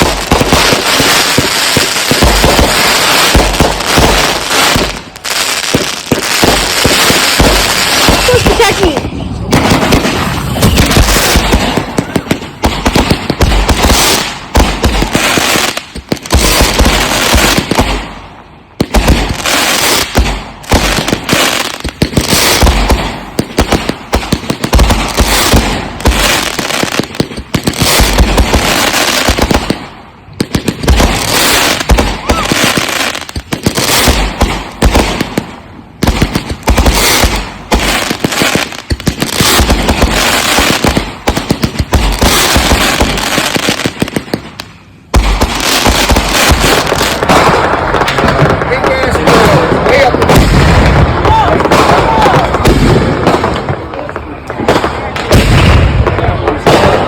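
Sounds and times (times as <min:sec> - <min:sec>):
firework launches and bangs: 0:00.0 - 0:57.0.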